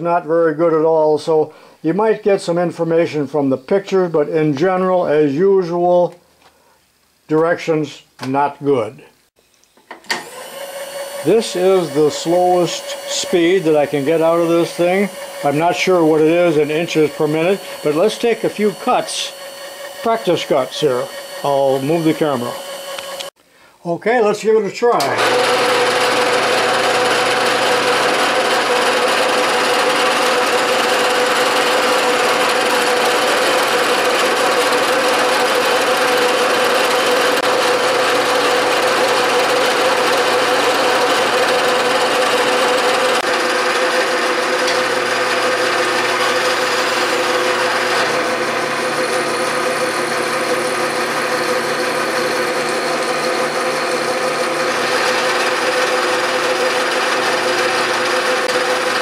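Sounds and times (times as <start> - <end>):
milling machine cutting metal: 10.1 - 23.4, 25.0 - 59.0.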